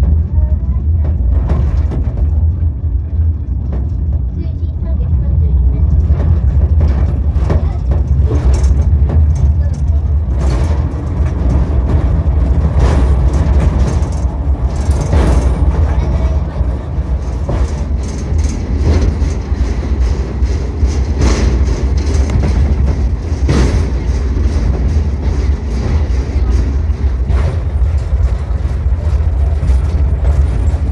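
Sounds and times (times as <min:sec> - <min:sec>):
rail car rumble: 0:00.0 - 0:30.9
wheels clacking on rail joints: 0:00.0 - 0:30.9.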